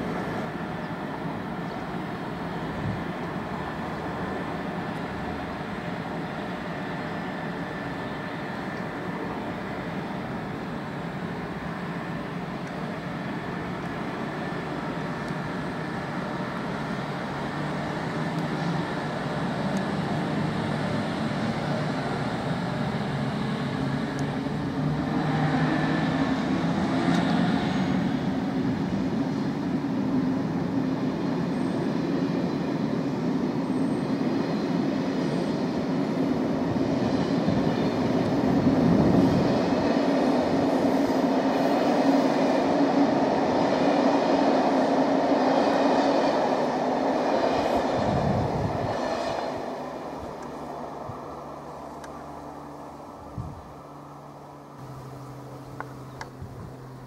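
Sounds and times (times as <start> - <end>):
electric train humming: 0.0 - 57.0.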